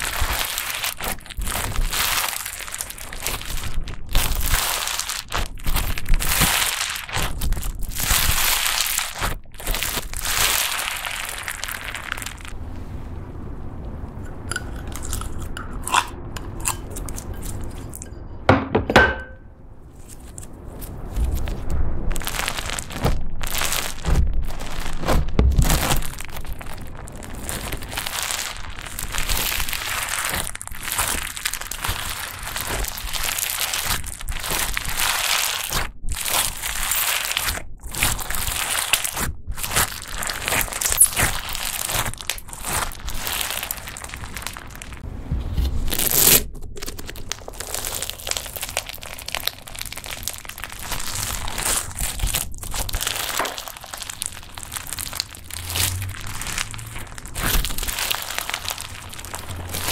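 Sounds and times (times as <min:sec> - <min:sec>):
slime crunching and crackling: 0:00.0 - 0:12.6, 0:14.2 - 0:18.1, 0:19.9 - 0:45.0, 0:45.6 - 0:59.9.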